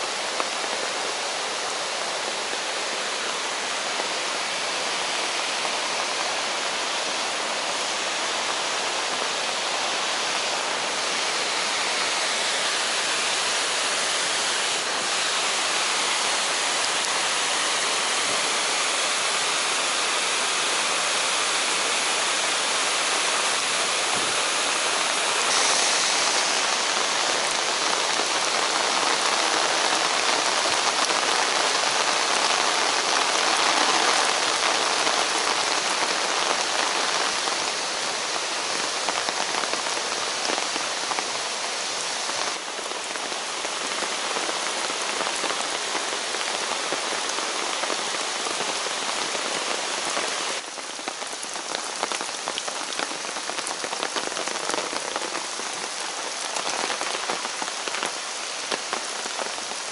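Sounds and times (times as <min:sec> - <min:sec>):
rushing mountain stream: 0:00.0 - 0:59.9
steady rain falling: 0:00.0 - 0:59.9.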